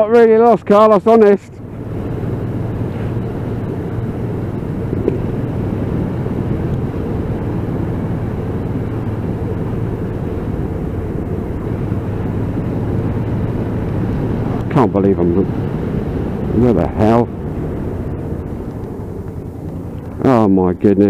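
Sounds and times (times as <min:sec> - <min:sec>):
motorcycle engine hum: 0:00.0 - 0:21.0
muffled wind rumble: 0:00.0 - 0:21.0.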